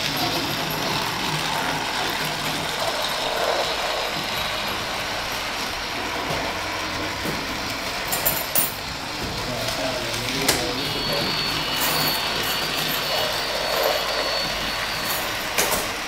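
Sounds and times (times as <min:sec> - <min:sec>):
toy train running on track: 0:00.0 - 0:16.0.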